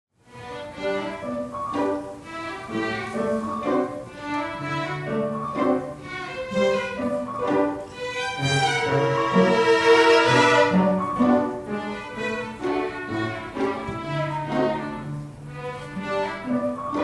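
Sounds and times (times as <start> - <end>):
violins playing melody: 0.2 - 17.0
sustained lower strings: 2.7 - 17.0.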